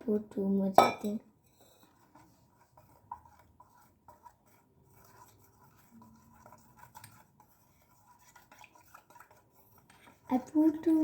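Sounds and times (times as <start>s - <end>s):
faint taps and light scratching: 1.5s - 10.5s.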